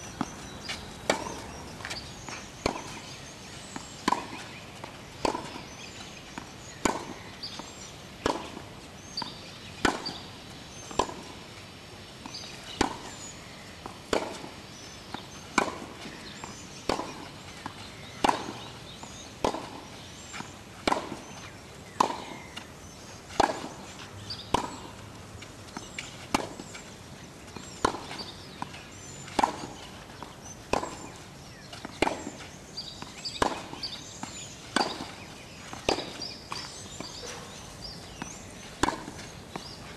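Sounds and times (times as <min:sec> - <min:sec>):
racket striking tennis ball: 0:00.1 - 0:03.2, 0:03.8 - 0:07.6, 0:08.2 - 0:08.6, 0:09.2 - 0:10.3, 0:10.9 - 0:11.3, 0:12.2 - 0:13.2, 0:13.8 - 0:14.5, 0:15.5 - 0:18.7, 0:19.4 - 0:22.7, 0:23.3 - 0:25.0, 0:25.7 - 0:26.9, 0:27.5 - 0:39.9.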